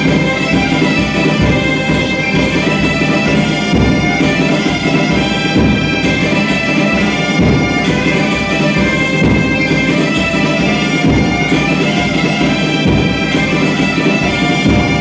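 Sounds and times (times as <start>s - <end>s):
bagpipes playing folk melody: 0.0s - 15.0s
snare drums beating: 0.0s - 15.0s.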